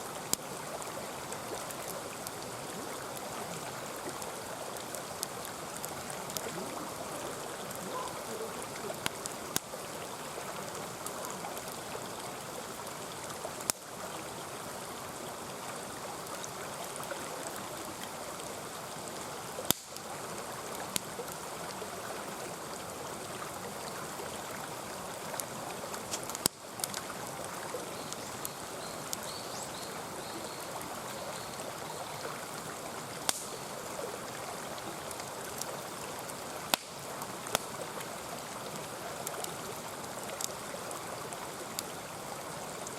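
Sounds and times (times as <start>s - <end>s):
campfire crackling: 0.0s - 42.9s
mountain stream rushing: 0.0s - 42.9s.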